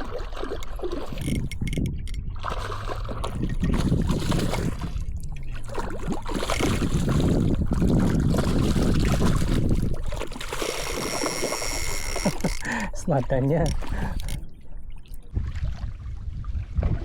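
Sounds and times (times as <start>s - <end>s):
lake water: 0.0s - 17.0s
wind buffeting microphone: 0.7s - 11.1s, 11.7s - 17.0s.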